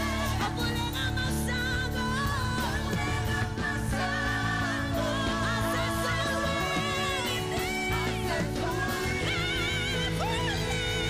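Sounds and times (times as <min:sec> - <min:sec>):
keyboard accompaniment: 0:00.0 - 0:11.0
singers singing worship music: 0:00.0 - 0:11.0.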